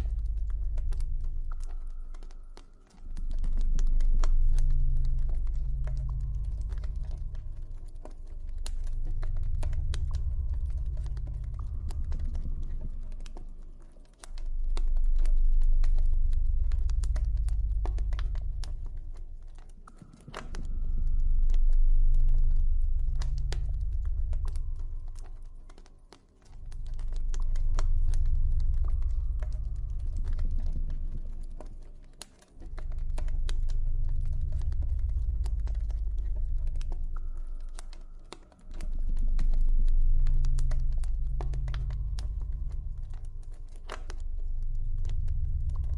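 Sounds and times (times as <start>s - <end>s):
deep synthesized ambient drone: 0.0s - 45.9s.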